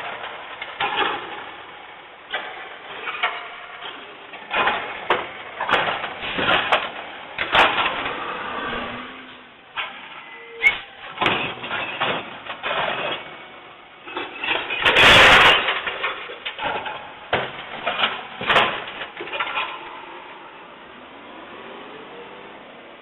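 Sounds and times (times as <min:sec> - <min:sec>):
refuse and metal banging: 0:00.0 - 0:20.2.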